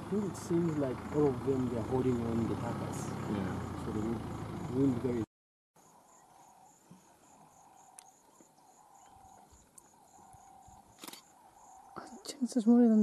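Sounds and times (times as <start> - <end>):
faint insects chirping: 0.0 - 13.0.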